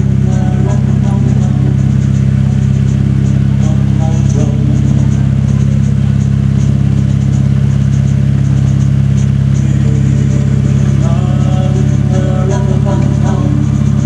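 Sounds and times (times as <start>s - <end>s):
miniature locomotive engine drone: 0.0s - 14.0s.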